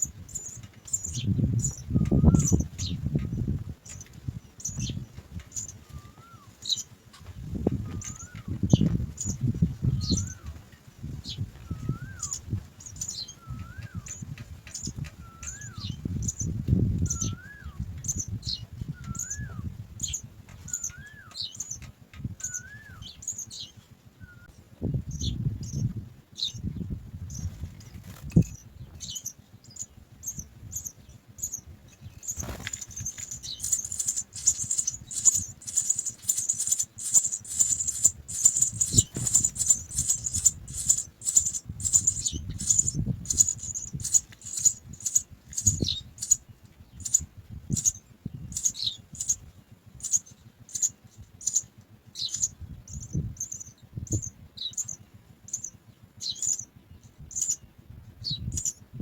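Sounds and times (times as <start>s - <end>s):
nestlings begging chirps: 0.0s - 58.9s.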